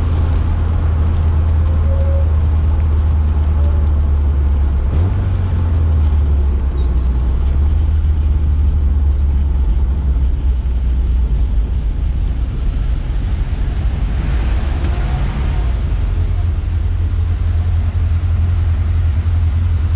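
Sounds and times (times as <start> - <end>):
car engine low drone: 0.0 - 19.9
road noise: 0.0 - 19.9.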